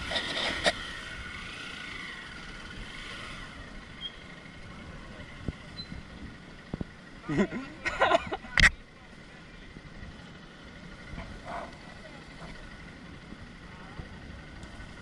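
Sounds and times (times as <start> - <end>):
off-road motorcycle engine: 0.0 - 15.0.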